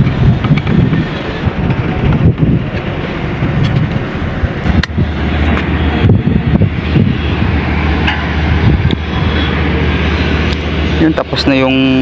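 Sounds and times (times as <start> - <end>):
low engine drone: 0.0 - 12.0
wind buffeting microphone: 0.0 - 12.0.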